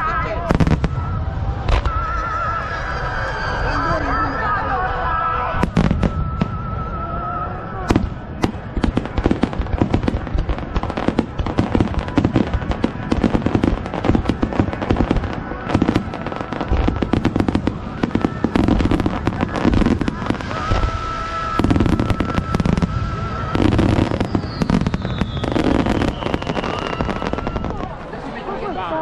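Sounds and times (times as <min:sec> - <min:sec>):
fireworks bursting with bangs: 0:00.1 - 0:03.6, 0:05.6 - 0:28.2.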